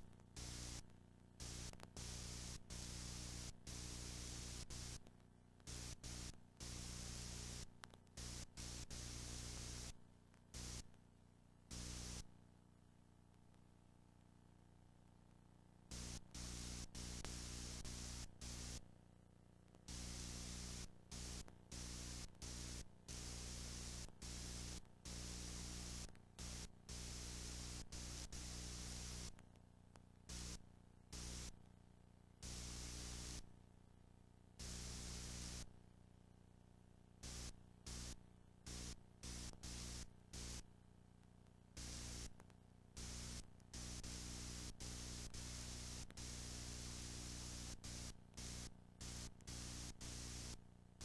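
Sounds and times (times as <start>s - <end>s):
hiss and electrical hum: 0.0s - 33.6s, 34.5s - 35.8s, 37.0s - 40.8s, 41.4s - 51.0s.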